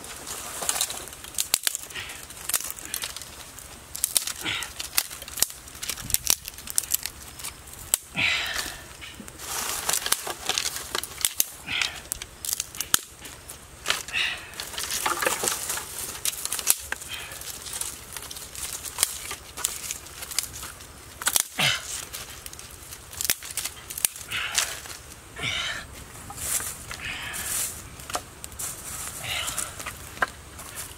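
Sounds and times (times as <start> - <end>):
campfire crackling and popping: 0.0 - 30.9
twigs snapping and rustling: 0.1 - 30.9.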